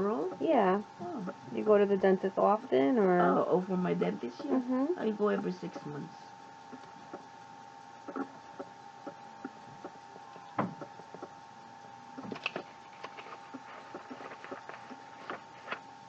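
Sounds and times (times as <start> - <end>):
steady thin whine: 0.0 - 16.0.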